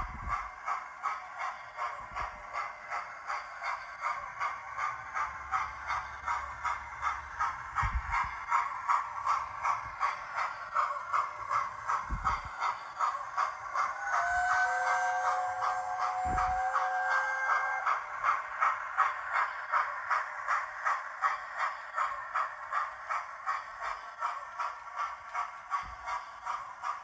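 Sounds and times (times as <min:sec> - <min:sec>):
steam locomotive chuffing from speaker: 0:00.0 - 0:27.0.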